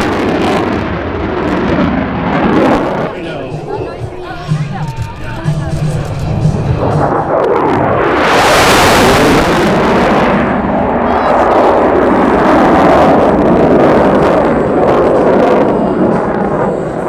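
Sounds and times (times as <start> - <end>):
jet engine noise: 0.0 - 17.0.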